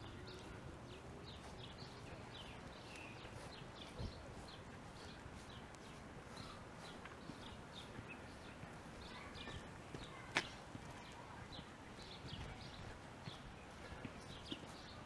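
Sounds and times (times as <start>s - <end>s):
footsteps of person and dog: 0.0s - 15.0s.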